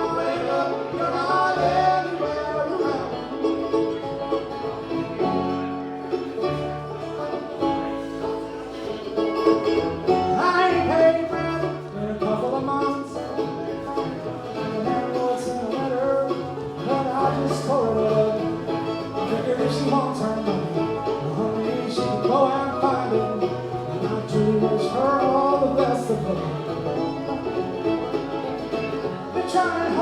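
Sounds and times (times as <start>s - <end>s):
banjo picking: 0.0s - 30.0s
bass line: 0.0s - 30.0s
bluegrass band playing: 0.0s - 30.0s.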